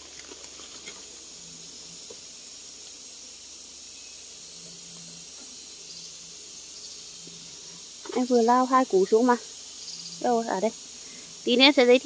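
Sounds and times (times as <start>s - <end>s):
insect chorus hissing: 0.0s - 12.0s.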